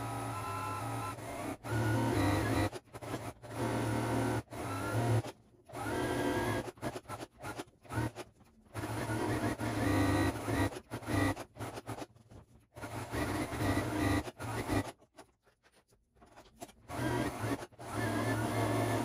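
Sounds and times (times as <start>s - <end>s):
sewing machine running: 0.0s - 12.1s, 12.7s - 15.0s, 16.9s - 19.0s.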